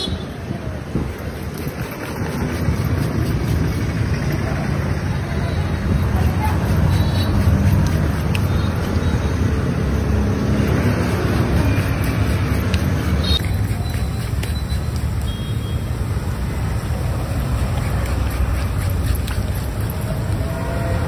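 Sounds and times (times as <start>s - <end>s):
low rumble like traffic: 0.0s - 21.0s.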